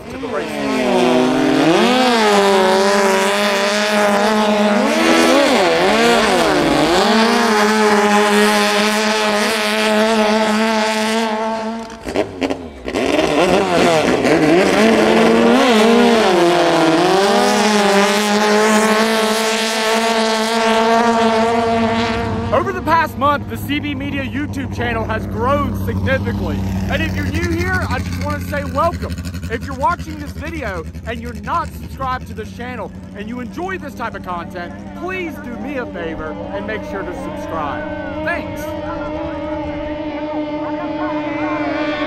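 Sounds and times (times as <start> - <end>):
boat engine revving: 0.0 - 42.0.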